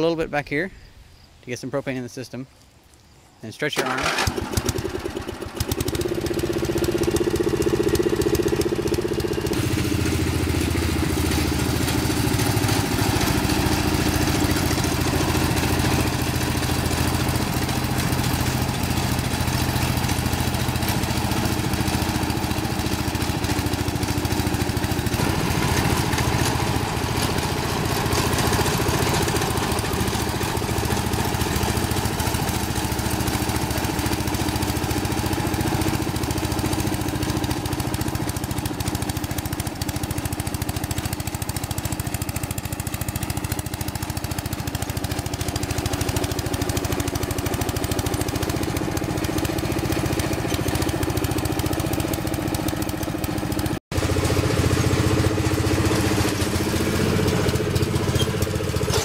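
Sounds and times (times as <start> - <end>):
lawn mower engine running: 3.6 - 59.0.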